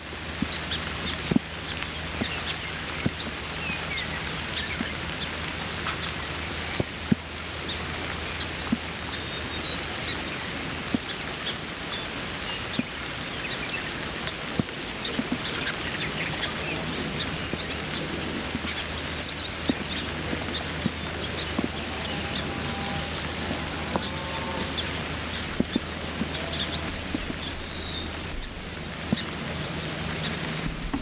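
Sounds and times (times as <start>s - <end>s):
rain drops ticking: 0.0s - 31.0s.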